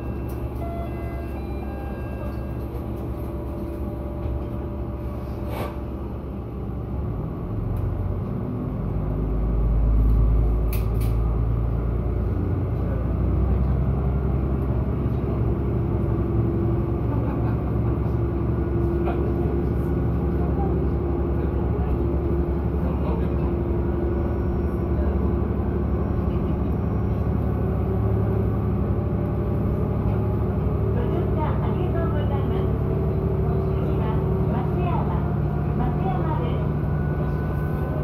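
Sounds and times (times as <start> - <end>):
diesel railcar engine: 0.0 - 38.0
low rumble of railcar moving: 0.0 - 38.0.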